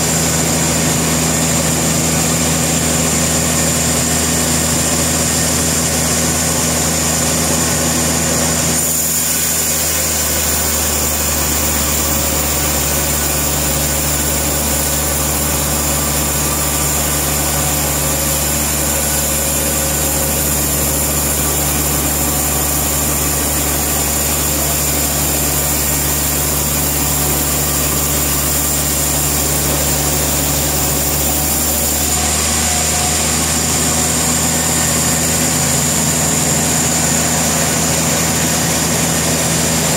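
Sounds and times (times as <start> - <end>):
engine-driven saw running: 0.0 - 39.9.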